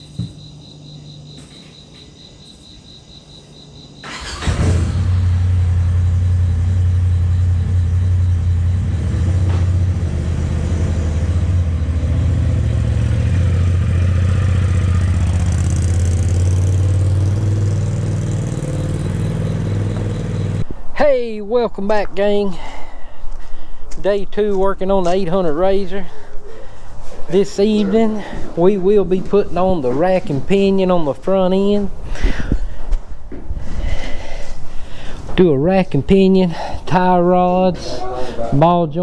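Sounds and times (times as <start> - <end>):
vehicle engine humming: 3.8 - 39.0.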